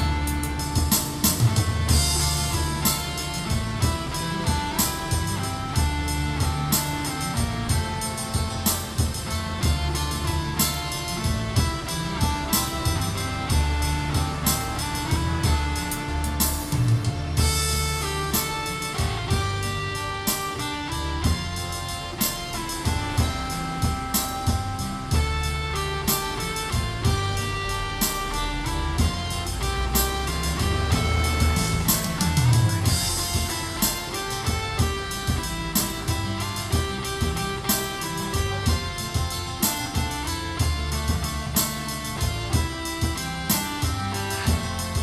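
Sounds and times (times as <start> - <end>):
keyboard playing with drum beat: 0.0 - 45.0.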